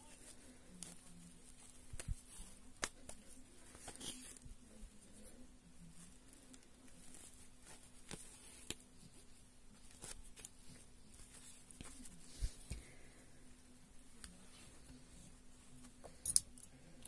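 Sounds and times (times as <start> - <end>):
lace fabric rustling: 0.0 - 16.2
low steady hum: 0.0 - 17.0.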